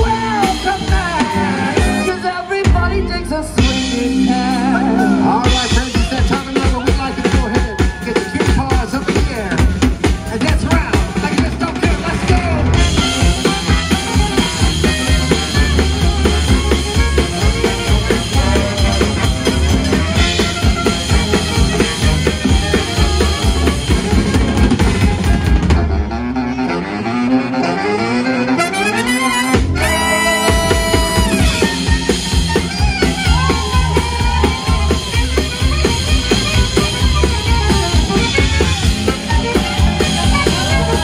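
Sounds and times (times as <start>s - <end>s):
swing band playing: 0.0s - 41.0s.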